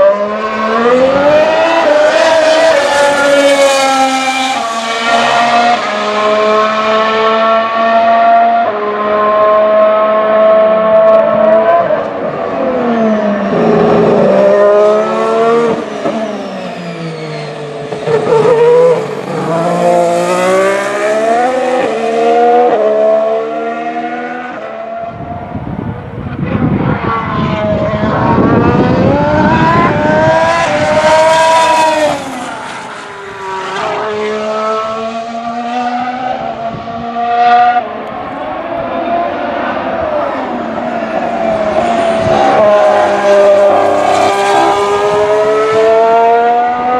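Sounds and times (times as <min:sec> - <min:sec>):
racing car engines passing: 0:00.0 - 0:46.9.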